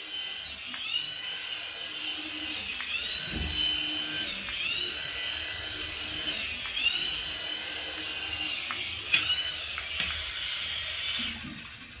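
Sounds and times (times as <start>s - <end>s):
toy electric motor whining: 0.0s - 12.0s.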